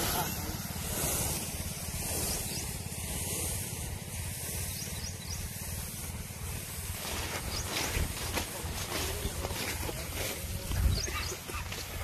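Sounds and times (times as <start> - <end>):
steady hiss: 0.0 - 12.0
tractor engine chugging: 0.0 - 12.0.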